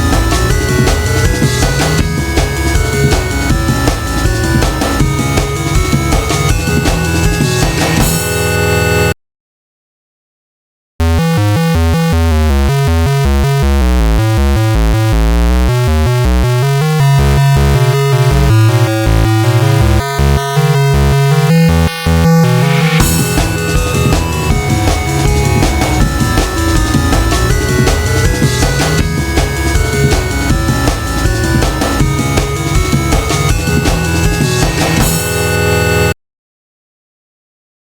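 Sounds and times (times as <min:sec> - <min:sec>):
heavy pulsing bass: 0:00.0 - 0:08.5, 0:11.1 - 0:35.8
loud synthesizer notes: 0:00.0 - 0:09.1, 0:11.0 - 0:36.1.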